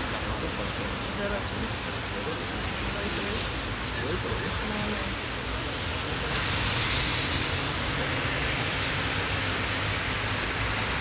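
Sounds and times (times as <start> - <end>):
city street traffic noise: 0.0 - 11.0.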